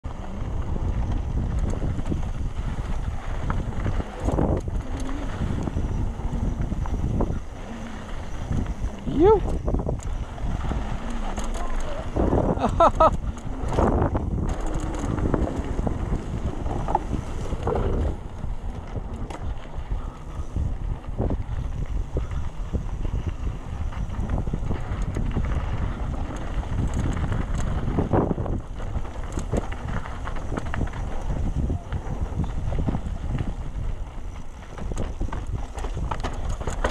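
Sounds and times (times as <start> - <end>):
mountain bike rolling rumble: 0.0 - 36.9
wind buffeting microphone: 0.0 - 36.9.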